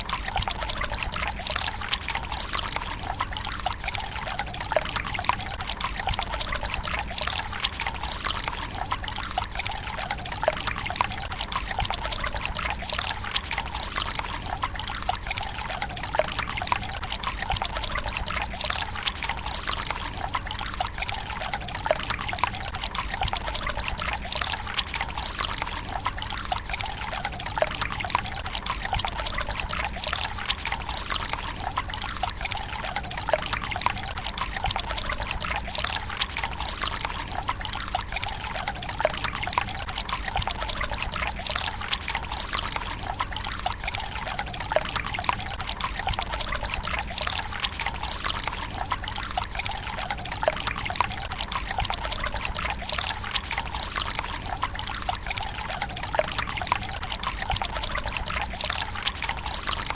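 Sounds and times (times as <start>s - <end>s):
water trickling into stone basin: 0.0s - 59.9s.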